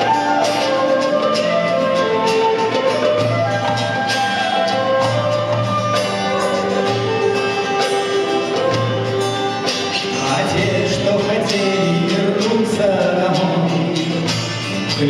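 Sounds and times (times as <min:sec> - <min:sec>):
folk-rock band playing: 0:00.0 - 0:15.0
percussion strikes: 0:00.0 - 0:15.0.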